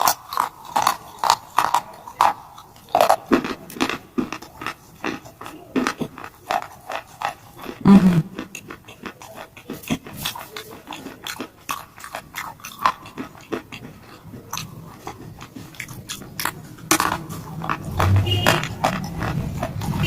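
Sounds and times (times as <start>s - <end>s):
crunchy chewing of stone: 0.0s - 20.0s.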